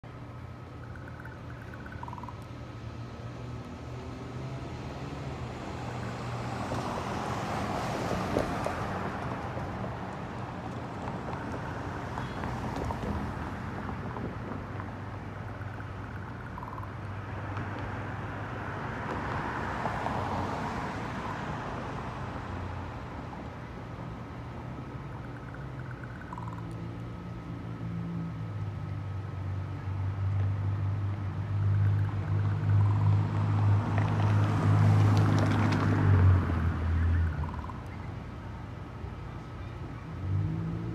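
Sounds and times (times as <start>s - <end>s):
cars passing: 0.0s - 40.9s
steady low traffic rumble: 0.0s - 40.9s.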